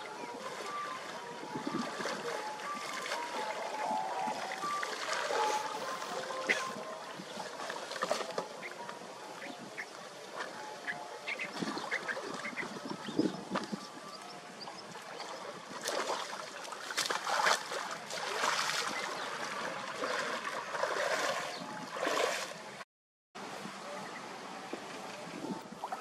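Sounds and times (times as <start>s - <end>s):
flowing water: 0.0s - 22.8s, 23.4s - 26.0s
water sloshing around wading legs: 0.0s - 22.8s.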